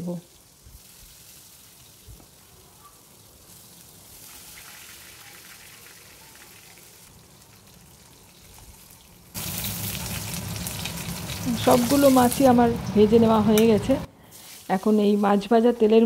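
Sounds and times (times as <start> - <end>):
fish sizzling in oil: 0.0 - 13.0, 14.2 - 15.5.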